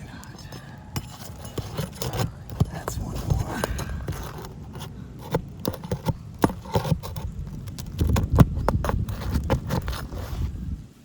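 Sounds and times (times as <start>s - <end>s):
roofing taps on shingles: 0.2s - 10.3s.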